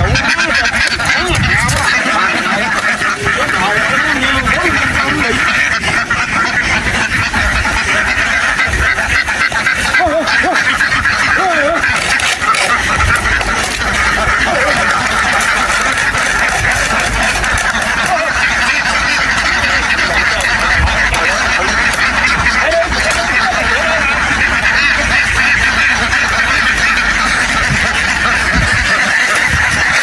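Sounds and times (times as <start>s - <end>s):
flock of ducks quacking: 0.0s - 30.0s.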